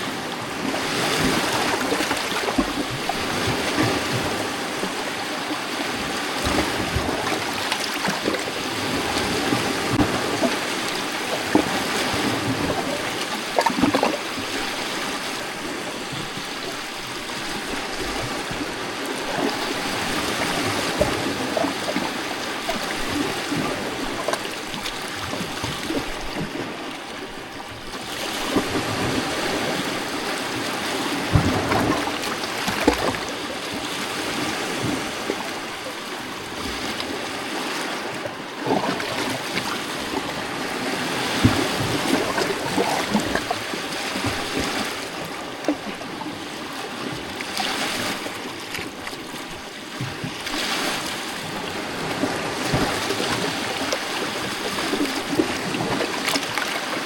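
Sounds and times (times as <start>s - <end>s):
waves lapping on rocky shore: 0.0s - 57.0s.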